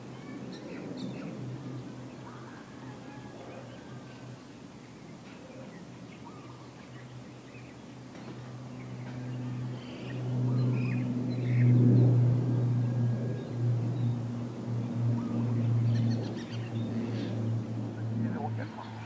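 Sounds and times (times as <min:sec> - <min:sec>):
small birds chirping: 0:00.0 - 0:02.6, 0:03.6 - 0:19.0
propeller aircraft drone: 0:00.0 - 0:19.0.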